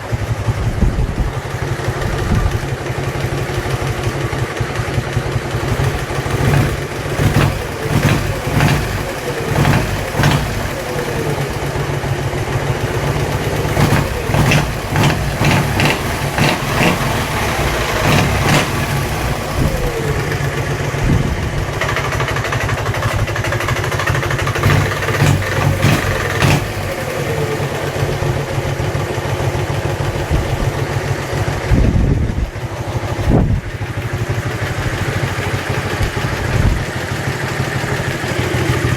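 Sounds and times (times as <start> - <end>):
engine knocking: 0.0 - 38.9
motorcycle engine idling and revving: 0.0 - 38.9.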